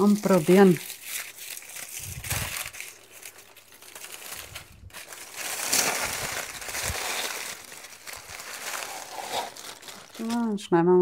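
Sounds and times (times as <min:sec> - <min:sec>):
foil and paper crinkling: 0:00.0 - 0:10.7.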